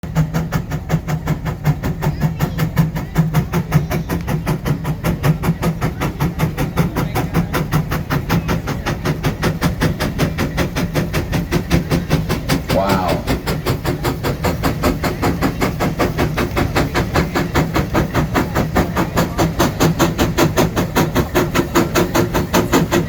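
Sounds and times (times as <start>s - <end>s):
steady low drone: 0.0s - 23.0s
steam engine exhaust chuffing: 0.0s - 23.0s.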